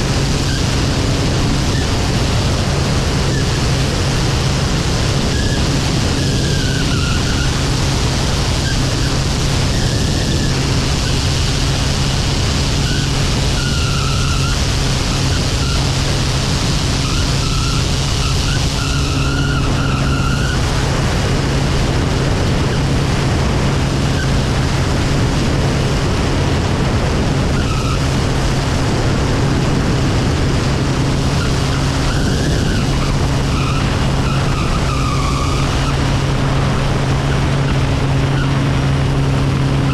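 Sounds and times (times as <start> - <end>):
propeller aircraft engine drone: 0.0 - 39.9
rushing airflow on microphone: 0.0 - 39.9.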